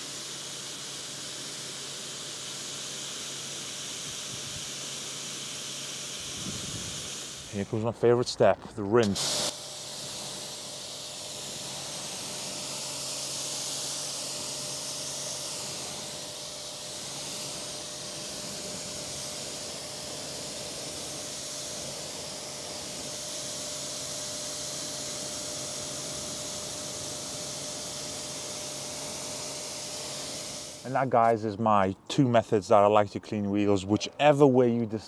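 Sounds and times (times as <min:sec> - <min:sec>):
pressure washer jet spraying: 0:00.0 - 0:31.4.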